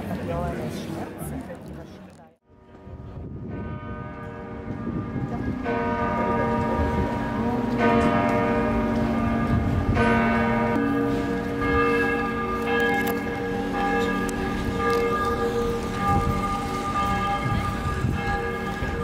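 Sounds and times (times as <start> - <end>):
church bells pealing: 2.6 - 19.0.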